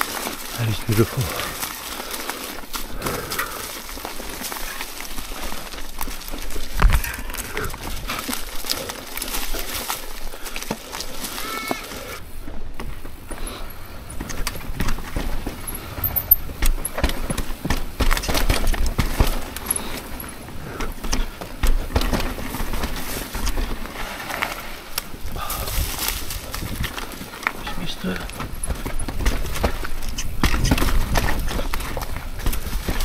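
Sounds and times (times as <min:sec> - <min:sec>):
mountain bike rattling on trail: 0:00.0 - 0:33.0.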